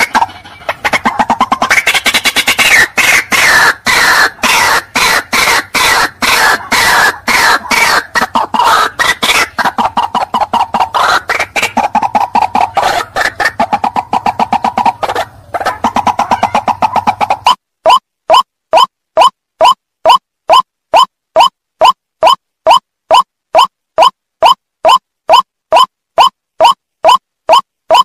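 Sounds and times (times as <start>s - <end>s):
waterhen croaking calls: 0.0s - 28.0s.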